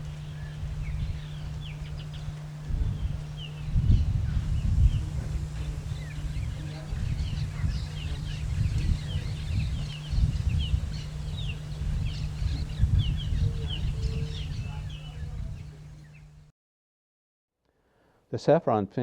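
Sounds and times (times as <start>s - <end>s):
small birds chirping: 0.0s - 16.5s
steady low rumble: 0.0s - 16.5s.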